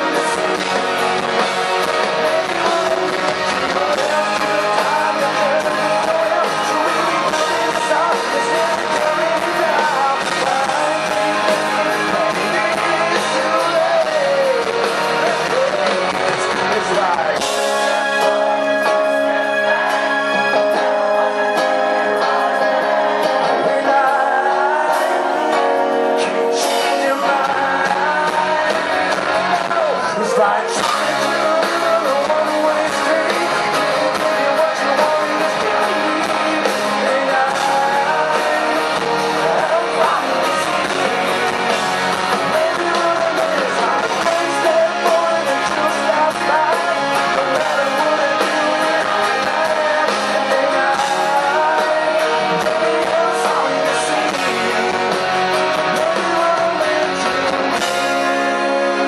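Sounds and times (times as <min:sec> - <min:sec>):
lead singer singing: 0:00.0 - 0:59.0
rock band playing live: 0:00.0 - 0:59.0.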